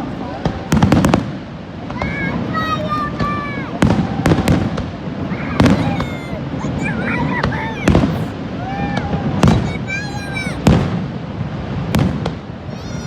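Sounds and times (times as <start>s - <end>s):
fireworks sharp bangs: 0.0s - 13.0s
rumble of firework bursts: 0.0s - 13.0s.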